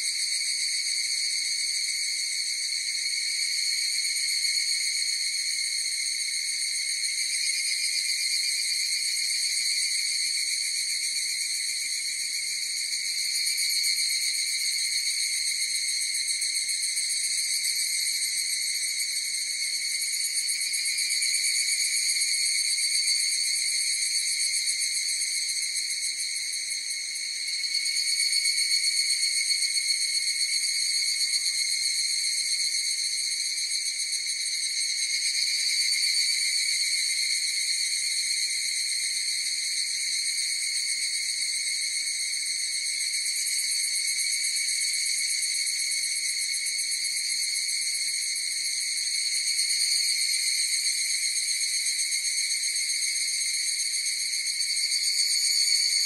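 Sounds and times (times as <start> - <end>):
cicada chorus ringing trill: 0.0 - 56.0.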